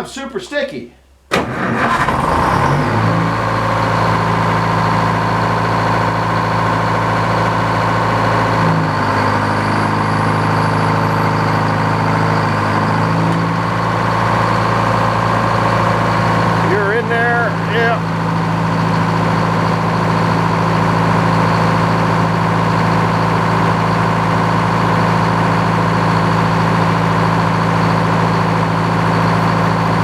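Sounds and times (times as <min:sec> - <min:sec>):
sawmill engine idling: 0:01.3 - 0:30.0.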